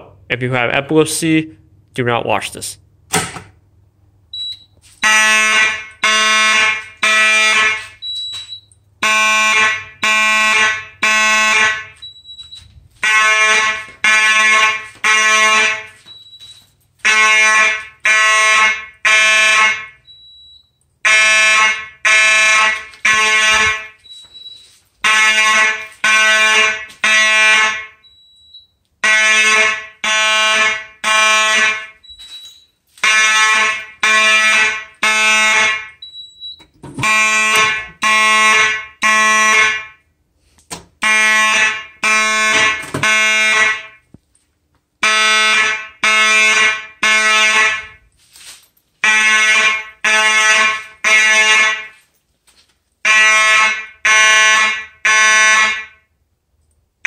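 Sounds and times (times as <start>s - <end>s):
fire alarm horn blasts: 4.4s - 40.1s, 41.0s - 44.1s, 45.0s - 48.1s, 49.0s - 52.1s, 53.0s - 56.2s.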